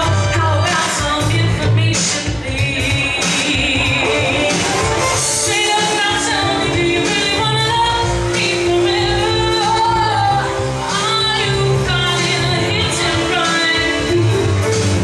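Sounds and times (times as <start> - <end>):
backing track: 0.0 - 15.0
woman singing pop song: 0.0 - 15.0.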